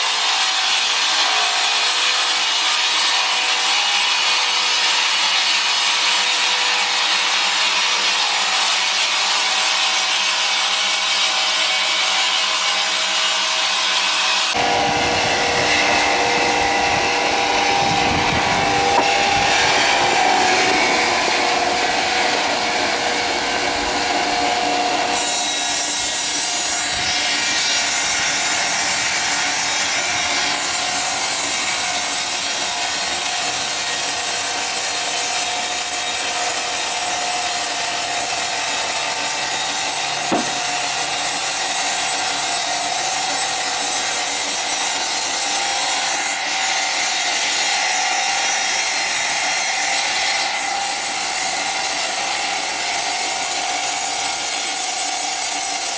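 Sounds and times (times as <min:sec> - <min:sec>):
saw blade cutting hard wood: 0:00.0 - 0:55.9.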